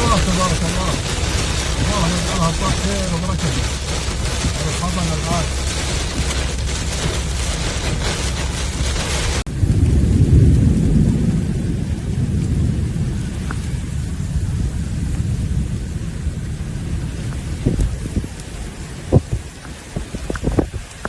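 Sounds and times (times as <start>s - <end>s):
heavy rain hissing: 0.0s - 21.0s
rolling rumble of thunder: 0.0s - 21.0s.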